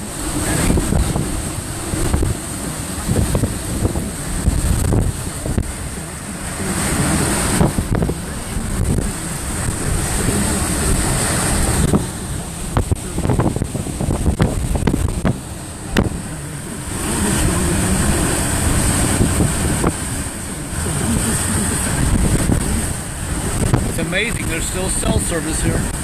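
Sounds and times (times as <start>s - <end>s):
hurricane wind buffeting microphone: 0.0s - 26.0s.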